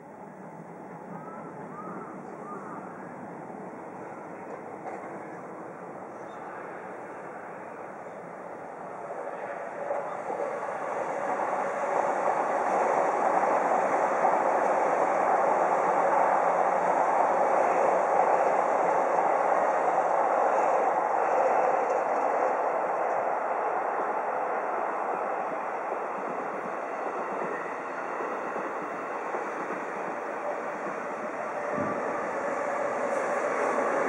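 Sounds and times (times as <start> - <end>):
electric train wheels on rail: 0.0 - 34.0.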